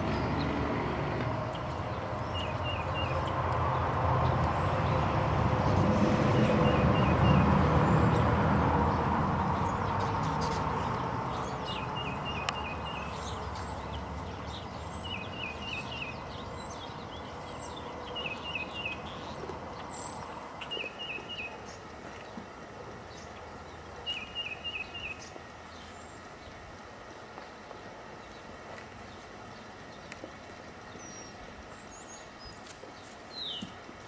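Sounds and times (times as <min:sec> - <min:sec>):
songbird chirping: 0:01.4 - 0:26.6, 0:27.7 - 0:33.8.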